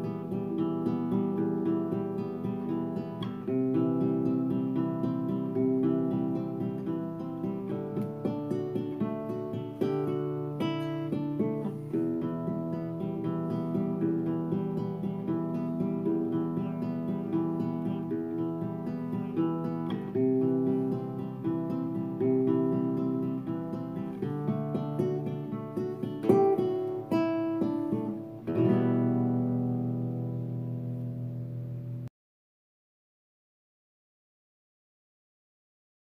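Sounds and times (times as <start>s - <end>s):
acoustic guitar playing: 0.0s - 32.1s.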